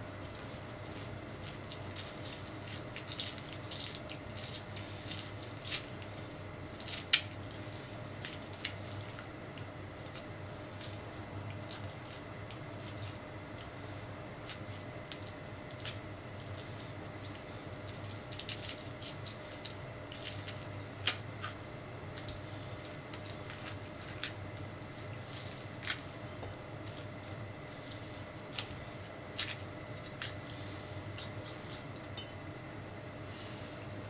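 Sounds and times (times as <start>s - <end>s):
low room hum: 0.0s - 34.0s
wet squishing of orange pulp: 0.1s - 32.2s.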